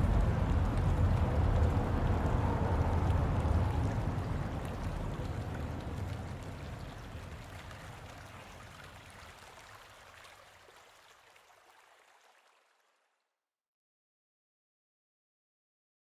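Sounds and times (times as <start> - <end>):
flowing water: 0.0 - 13.2.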